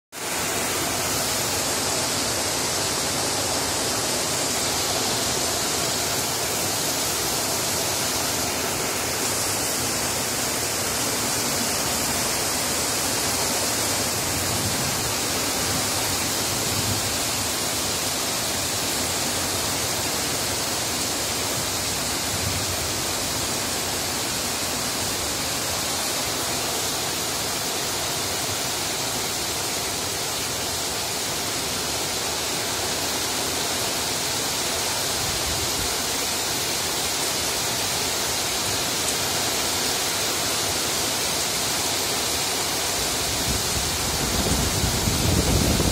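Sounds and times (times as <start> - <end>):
heavy rain on foliage: 0.1 - 45.9.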